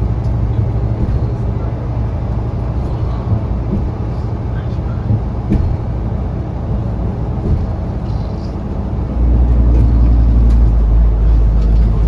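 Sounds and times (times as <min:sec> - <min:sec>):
bus engine running: 0:00.0 - 0:12.0
road rumble: 0:00.0 - 0:12.0.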